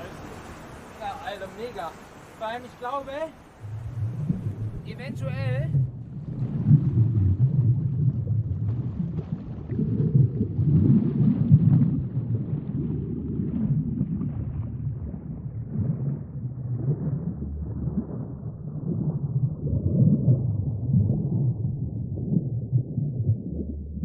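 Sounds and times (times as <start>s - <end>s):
ocean waves breaking: 0.0s - 19.6s.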